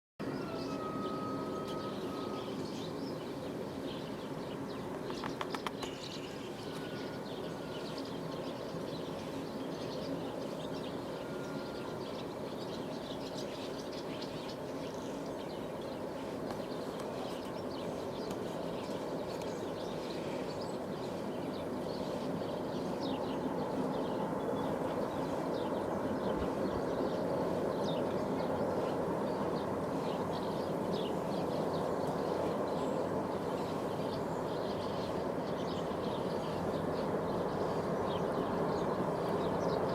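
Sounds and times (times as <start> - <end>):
birds chirping: 0.2 - 39.9.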